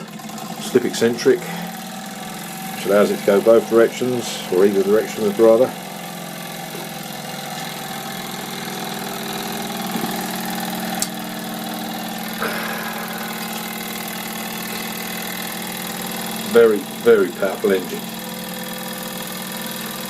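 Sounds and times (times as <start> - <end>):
toy steam engine chuffing: 0.0 - 20.0.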